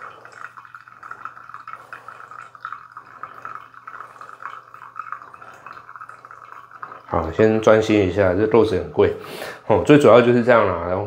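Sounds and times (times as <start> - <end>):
water pouring from a kettle: 0.0 - 11.0.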